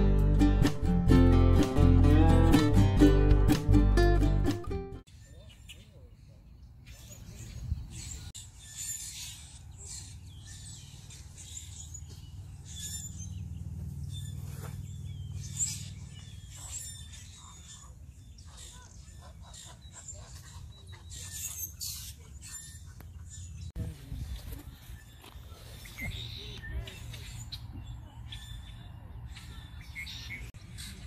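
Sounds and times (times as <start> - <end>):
birds chirping: 5.1 - 31.0.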